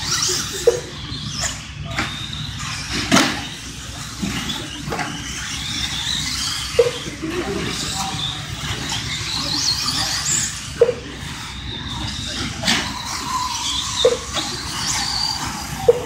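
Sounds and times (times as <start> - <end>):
rc truck motors whining: 0.0 - 16.0.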